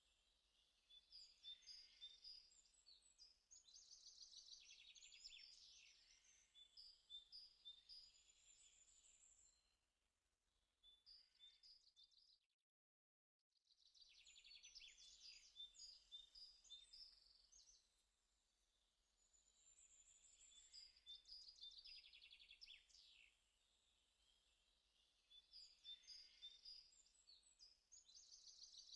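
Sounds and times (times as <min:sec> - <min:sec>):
faint birdsong chirps and trills: 0:00.0 - 0:12.5, 0:13.6 - 0:28.9.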